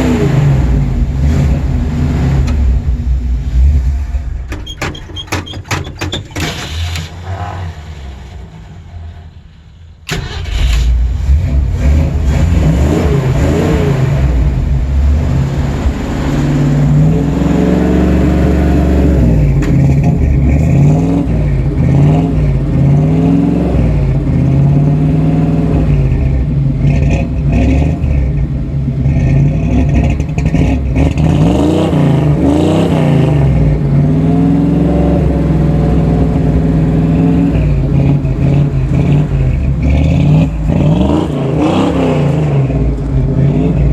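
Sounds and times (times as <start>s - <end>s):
engine revving: 0.0s - 4.6s, 6.4s - 43.9s.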